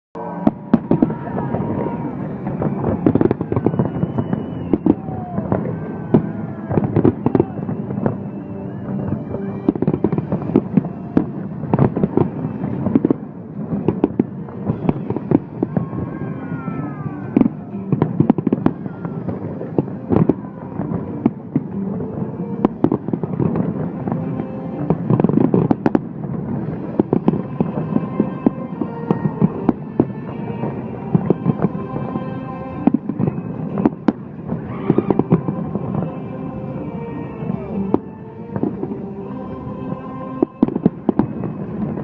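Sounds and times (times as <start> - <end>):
fireworks bangs and crackling: 0.2 - 42.0
fireworks whistling: 0.2 - 42.0.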